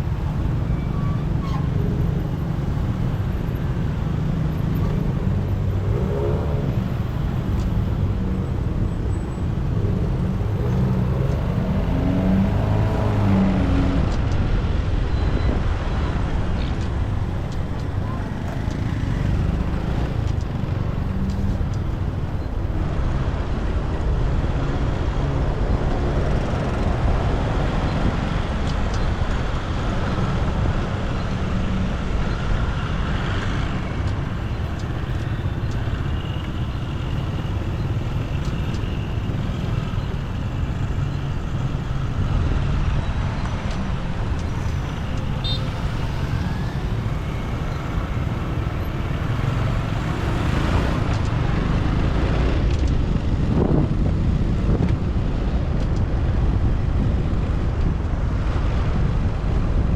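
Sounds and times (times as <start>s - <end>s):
road traffic: 0.0s - 59.9s
wind rumble on microphone: 0.0s - 59.9s.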